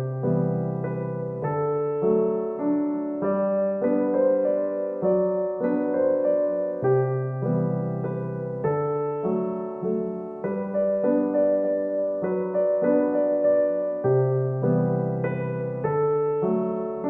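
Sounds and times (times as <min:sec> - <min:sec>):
gentle piano piece: 0:00.0 - 0:17.0.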